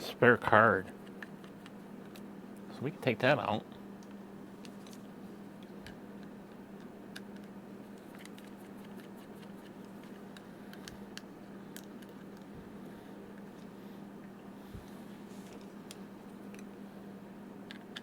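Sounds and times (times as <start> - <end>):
steady low electrical hum: 0.0 - 18.0.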